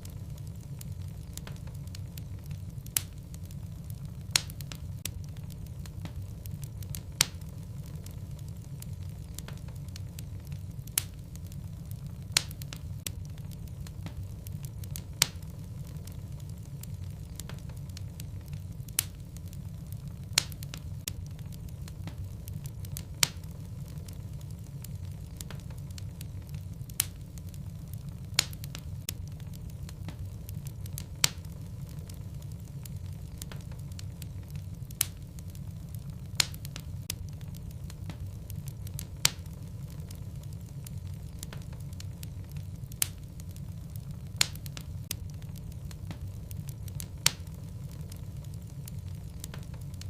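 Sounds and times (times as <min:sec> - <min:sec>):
fire crackles and pops: 0:00.0 - 0:50.0
fire rumble: 0:00.0 - 0:50.0.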